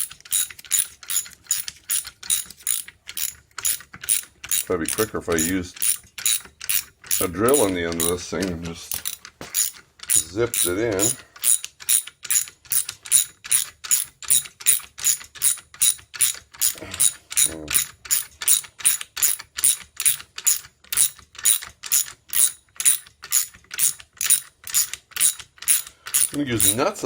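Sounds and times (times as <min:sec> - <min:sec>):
ratchet mechanism clicking: 0:00.0 - 0:27.0.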